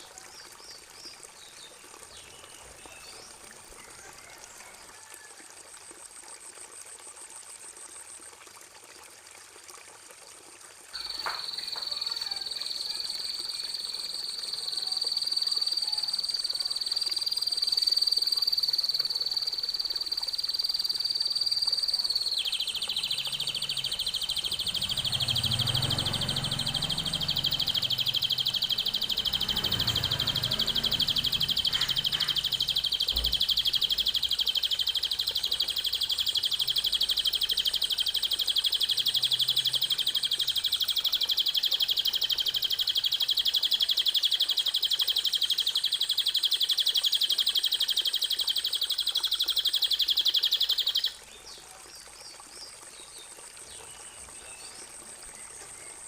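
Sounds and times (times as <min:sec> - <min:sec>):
songbird chirps and rapid trill: 0:10.9 - 0:56.0.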